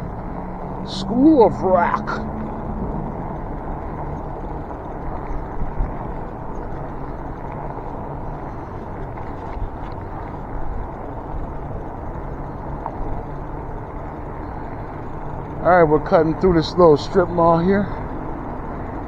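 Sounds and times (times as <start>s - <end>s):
e-bike riding rumble: 0.0s - 19.0s.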